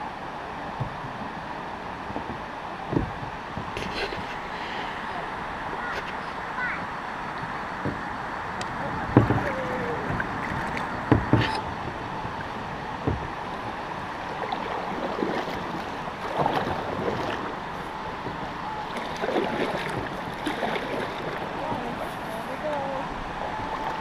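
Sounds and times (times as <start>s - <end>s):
kayak paddles splashing: 0.0s - 24.0s
rushing water: 0.0s - 24.0s
wind noise: 0.0s - 24.0s.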